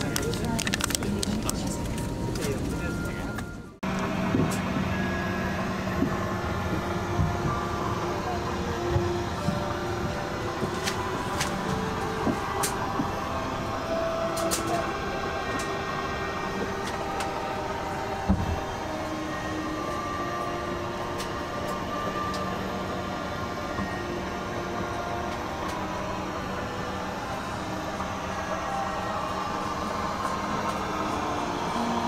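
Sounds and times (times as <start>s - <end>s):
airliner cabin hum: 0.0s - 32.0s.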